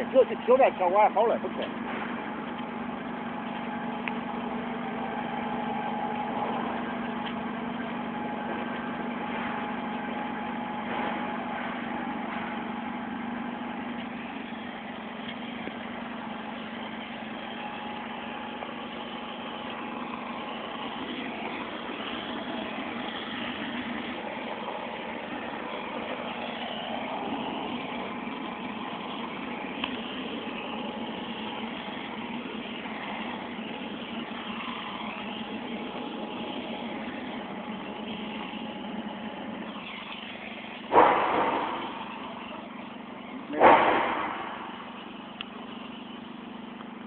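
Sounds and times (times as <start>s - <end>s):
plastering machine humming: 0.0s - 47.0s.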